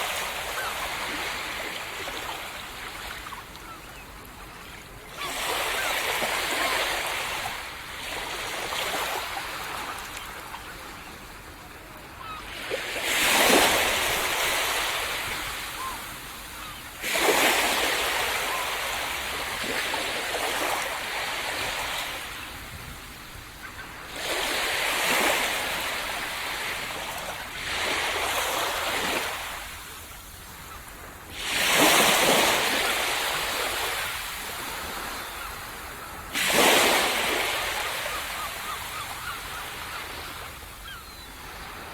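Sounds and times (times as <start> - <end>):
small sea waves breaking on sand: 0.0 - 30.2, 31.0 - 40.8.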